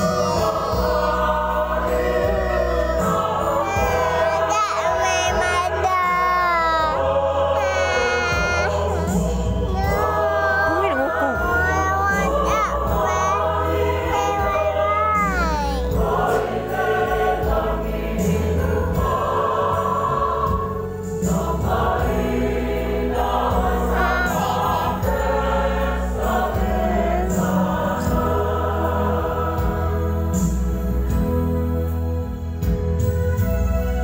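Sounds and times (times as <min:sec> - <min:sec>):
congregation singing a hymn: 0:00.0 - 0:33.0.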